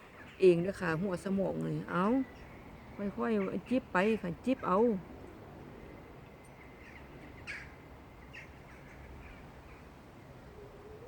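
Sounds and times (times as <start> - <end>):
bird calling: 0.0 - 5.0, 5.8 - 11.0
faint wind rumble: 0.0 - 11.0.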